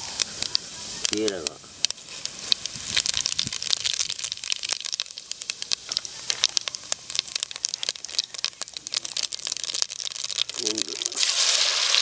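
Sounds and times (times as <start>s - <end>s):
oil hissing: 0.0s - 12.0s
seeds crackling in hot oil: 0.0s - 12.0s.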